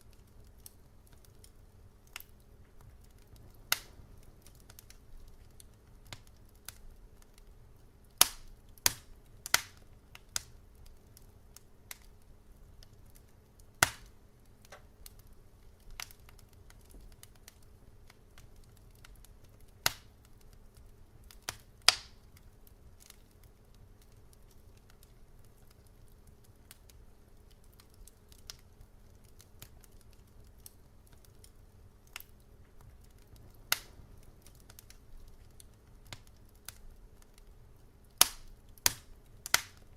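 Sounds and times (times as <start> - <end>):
low steady hum: 0.0 - 39.9
wood fire crackling: 0.0 - 39.9.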